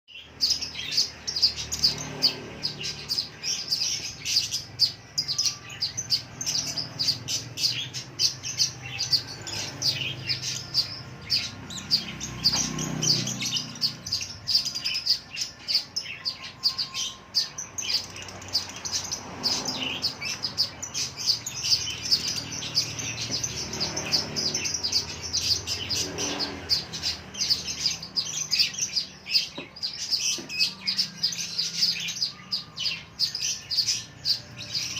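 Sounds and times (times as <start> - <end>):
lovebird chirping: 0.1 - 34.9.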